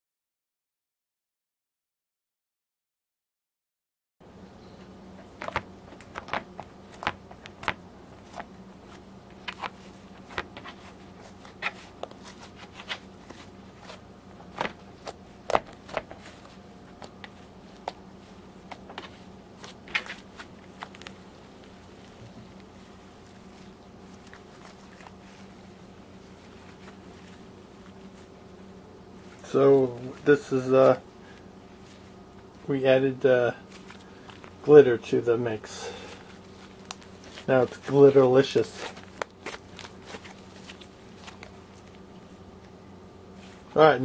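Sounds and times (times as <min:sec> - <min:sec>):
steady low hum: 0:04.2 - 0:44.0.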